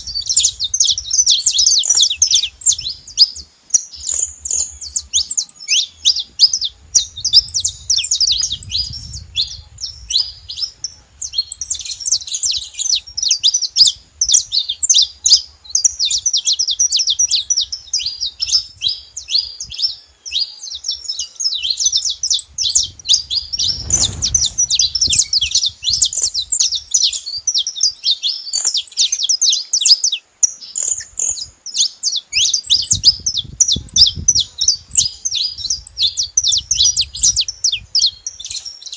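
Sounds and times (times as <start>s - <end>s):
finch singing: 0.0s - 38.9s.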